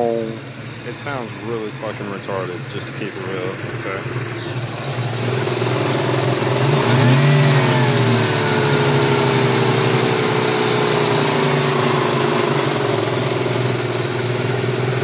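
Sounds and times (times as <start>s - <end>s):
car engine revving down to idle: 0.0s - 15.0s
whining tone: 0.0s - 15.0s.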